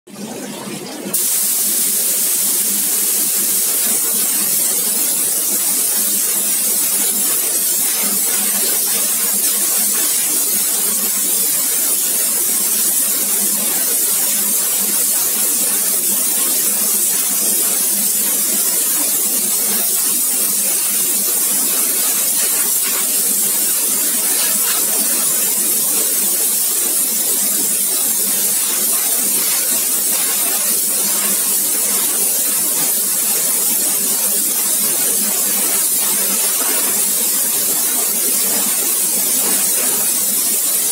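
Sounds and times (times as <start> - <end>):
high-pressure nozzle hissing: 1.2 - 40.9.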